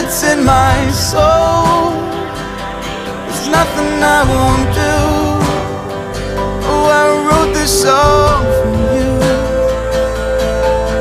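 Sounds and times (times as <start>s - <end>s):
instrumental accompaniment: 0.0s - 11.0s
singer holding wavering notes: 0.0s - 11.0s.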